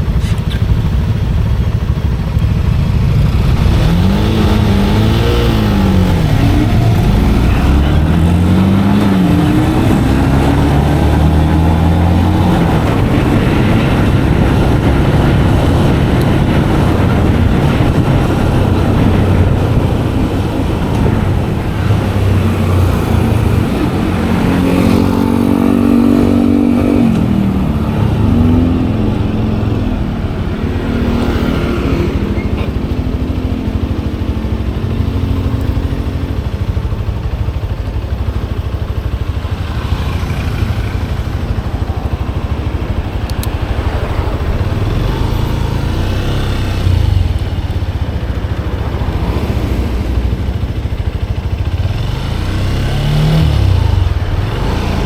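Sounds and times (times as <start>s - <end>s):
motorcycle engine revving: 0.0s - 55.0s
road and wind noise: 0.0s - 55.0s.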